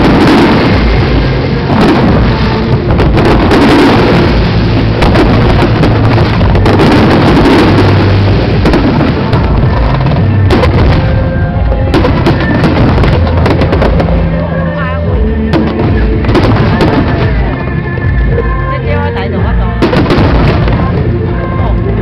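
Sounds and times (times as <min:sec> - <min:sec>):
sharp fireworks cracks: 0:00.0 - 0:18.6, 0:19.3 - 0:22.0
fireworks rumble: 0:00.0 - 0:22.0.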